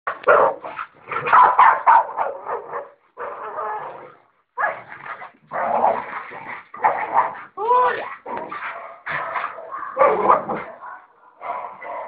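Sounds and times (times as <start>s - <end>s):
dogs barking and yipping: 0.1s - 4.0s, 4.6s - 12.0s.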